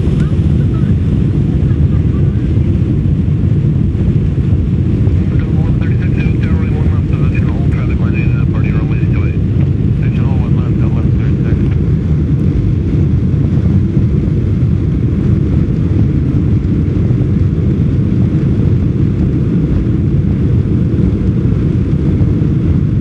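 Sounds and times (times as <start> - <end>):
jet engines low rumble: 0.0 - 23.0.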